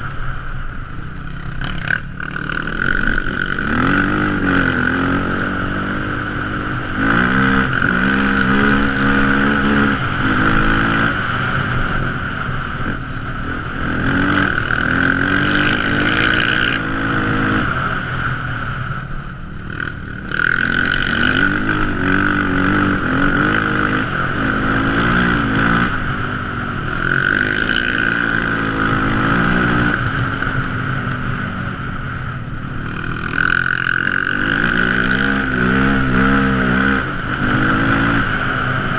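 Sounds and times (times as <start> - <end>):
steady high whine: 0.0 - 38.9
quad engine revving: 1.2 - 12.1, 12.8 - 18.0, 19.7 - 30.6, 32.7 - 38.9.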